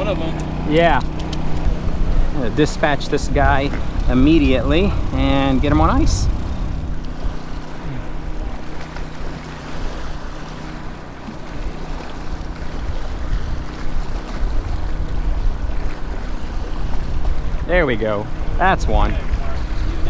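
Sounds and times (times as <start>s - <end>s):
steady low hum: 0.0s - 20.0s
wind buffeting microphone: 0.0s - 20.0s.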